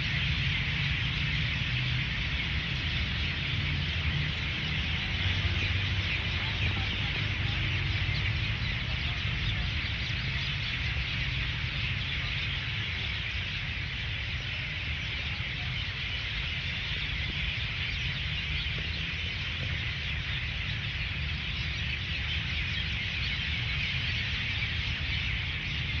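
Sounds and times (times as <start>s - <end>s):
chorus of birds chirping: 0.0s - 26.0s
low steady rumble: 0.0s - 26.0s.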